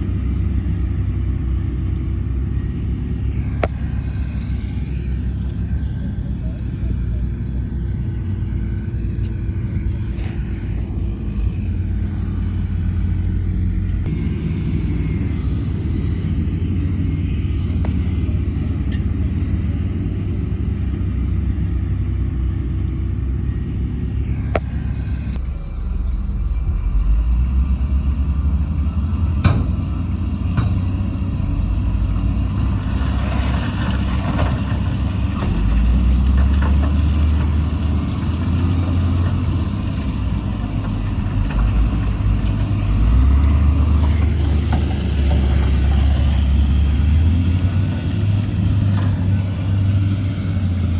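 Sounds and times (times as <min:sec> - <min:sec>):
heavy diesel engine rumbling: 0:00.0 - 0:50.9.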